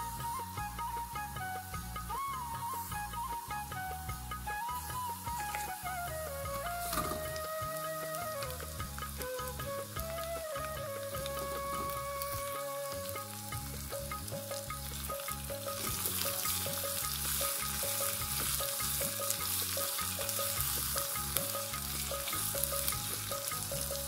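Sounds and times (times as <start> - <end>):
onions sizzling in saucepan: 0.0 - 24.0.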